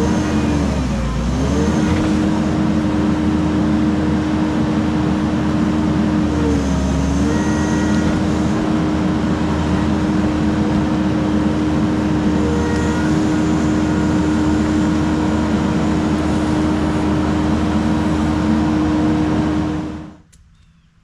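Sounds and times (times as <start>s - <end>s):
heavy equipment engine running: 0.0s - 20.3s.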